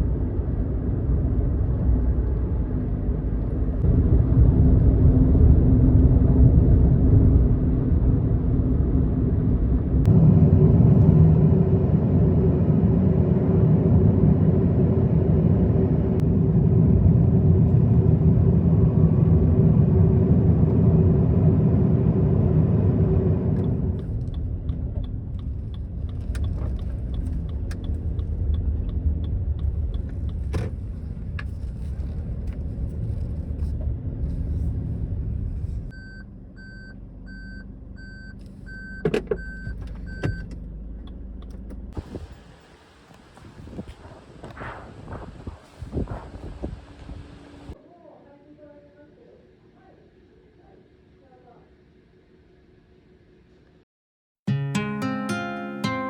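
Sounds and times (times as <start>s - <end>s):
car road and engine rumble: 0.0s - 47.8s.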